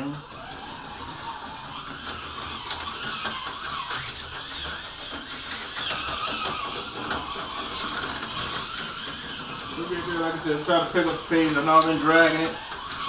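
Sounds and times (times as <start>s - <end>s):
car clicking over track: 0.0s - 13.0s
slot car motor whining: 0.0s - 13.0s.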